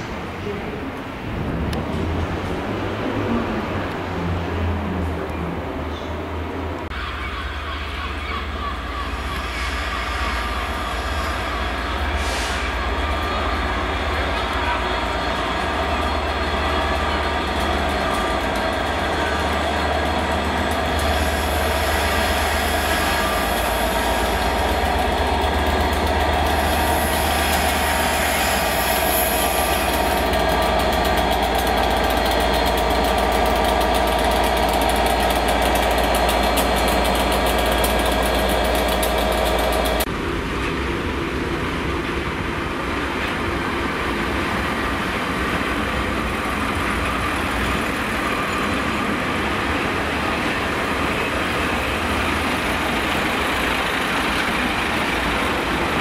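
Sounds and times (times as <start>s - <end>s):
diesel locomotive passing: 0.0s - 56.0s
diesel train engine running: 0.0s - 56.0s.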